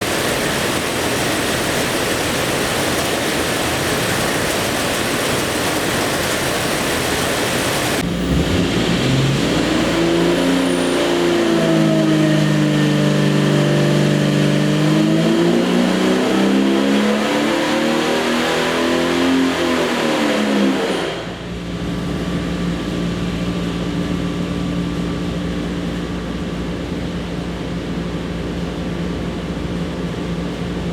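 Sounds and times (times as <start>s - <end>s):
engine running on a dyno: 0.0s - 30.9s.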